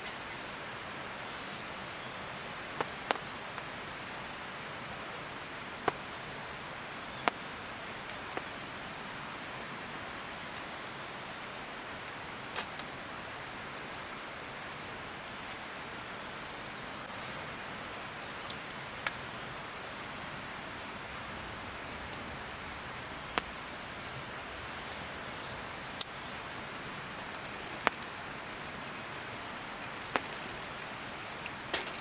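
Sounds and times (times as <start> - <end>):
campfire crackling: 0.0 - 32.0.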